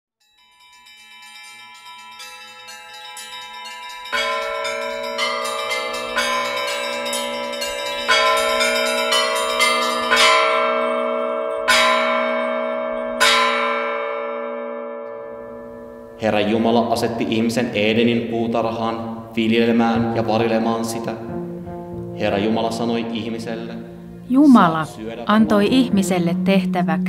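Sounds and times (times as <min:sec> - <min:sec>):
church bells ringing: 0:00.2 - 0:27.0.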